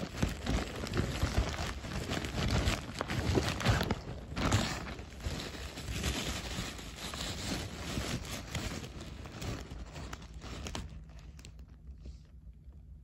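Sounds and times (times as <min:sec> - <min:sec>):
packaging crinkling: 0:00.0 - 0:11.9.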